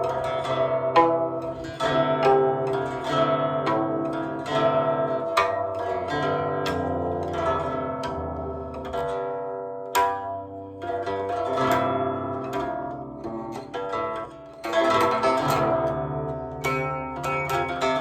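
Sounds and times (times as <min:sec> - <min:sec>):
plucked zither playing: 0:00.0 - 0:18.0.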